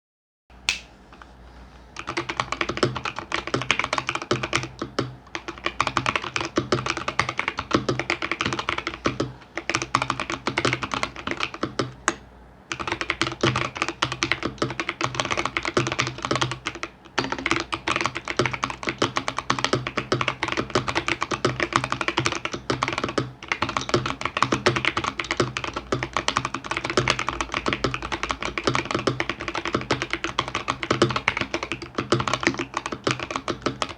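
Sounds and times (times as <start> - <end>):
mechanical keyboard typing clacks: 2.0 - 33.9.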